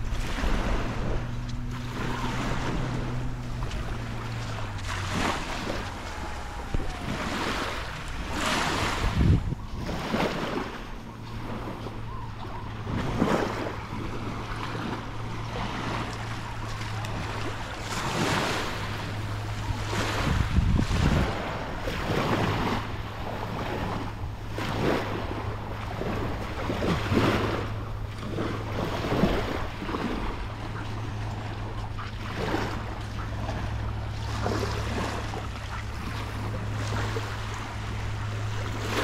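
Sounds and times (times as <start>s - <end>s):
small waves washing onto beach: 0.0s - 39.0s
steady low hum: 0.0s - 39.0s
wind on microphone: 0.0s - 39.0s.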